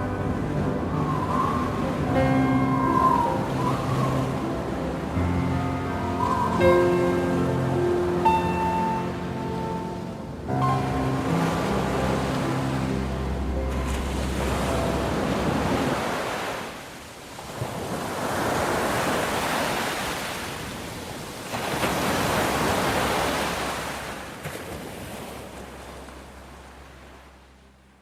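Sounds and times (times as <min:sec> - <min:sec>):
ocean waves rolling in: 0:00.0 - 0:28.0.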